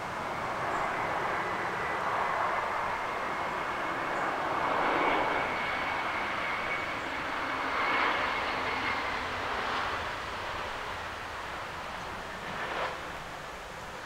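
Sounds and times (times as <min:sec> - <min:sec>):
jet engines rushing with fan whine: 0:00.0 - 0:14.0.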